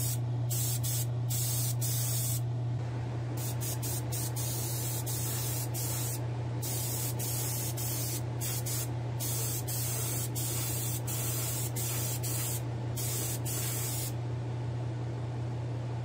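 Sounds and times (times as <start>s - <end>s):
airbrush spraying hiss: 0.0s - 2.4s, 3.4s - 14.1s.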